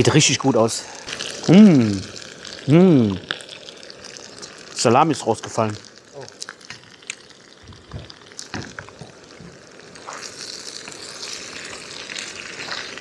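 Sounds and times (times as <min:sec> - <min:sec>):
potatoes and sausage sizzling: 0:00.0 - 0:13.0.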